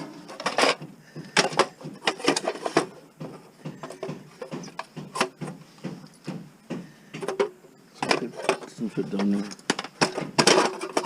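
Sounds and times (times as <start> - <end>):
metal clanks and knocks: 0.0 - 11.0.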